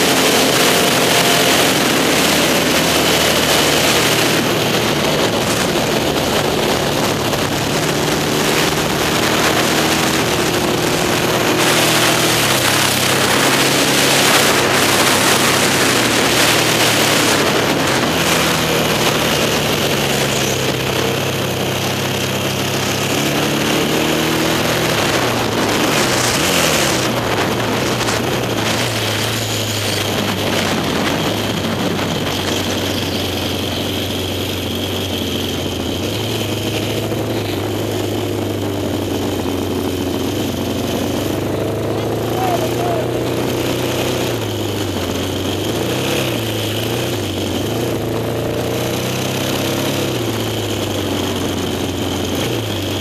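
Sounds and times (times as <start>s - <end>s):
motorcycle engine revving: 0.0s - 53.0s
wind rushing over microphone: 0.0s - 53.0s.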